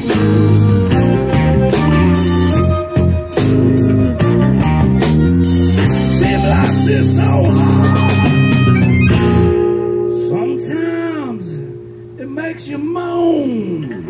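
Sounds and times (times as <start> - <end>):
drum kit: 0.0 - 13.0
blues band playing: 0.0 - 14.0
electric bass: 0.0 - 14.0
electric guitar: 0.0 - 14.0.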